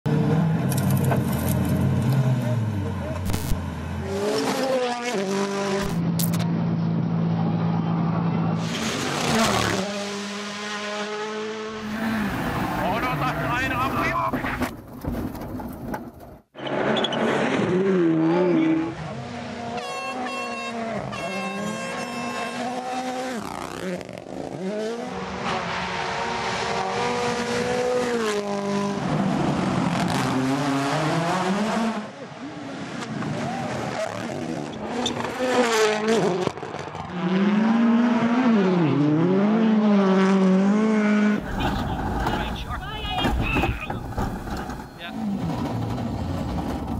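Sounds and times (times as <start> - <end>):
rally car engine at high revs: 0.1 - 6.4, 8.5 - 14.7, 16.6 - 46.9.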